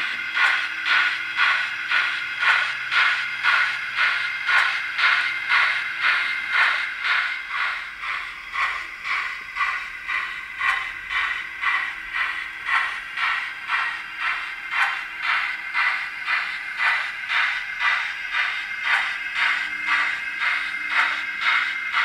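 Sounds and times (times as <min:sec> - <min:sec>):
model train steam chuffs: 0:00.0 - 0:22.0.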